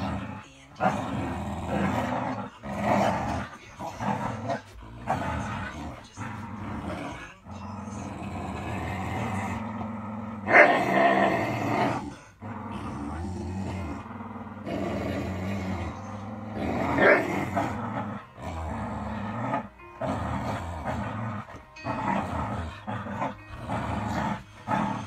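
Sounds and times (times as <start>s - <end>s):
dogs growling in play: 0.0s - 25.0s.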